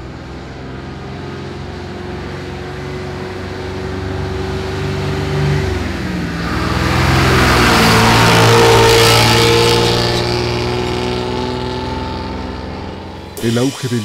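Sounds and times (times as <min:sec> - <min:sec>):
rushing road noise: 0:00.0 - 0:14.0.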